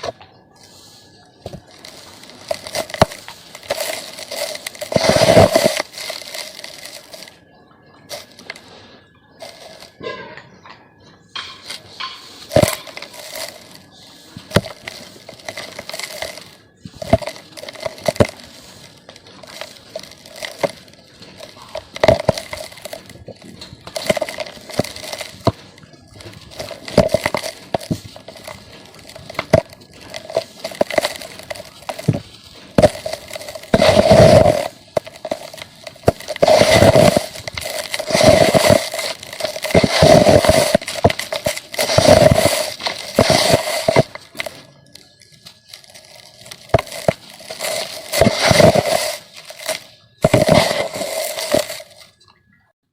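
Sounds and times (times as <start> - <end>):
dry dirt lumps being crushed: 0.0 - 10.6, 11.3 - 52.3.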